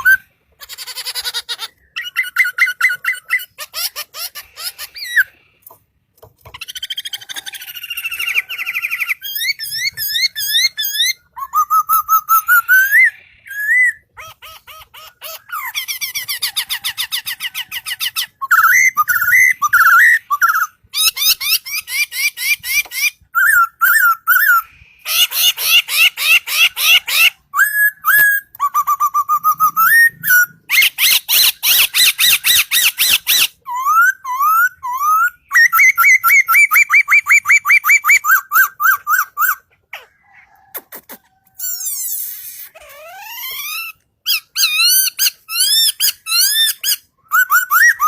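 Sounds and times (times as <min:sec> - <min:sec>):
bird singing varied song: 0:00.0 - 0:40.7.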